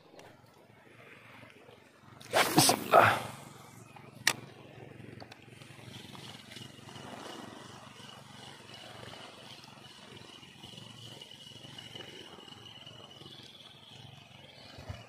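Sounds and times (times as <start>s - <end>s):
fishing reel whirring: 2.2s - 15.0s.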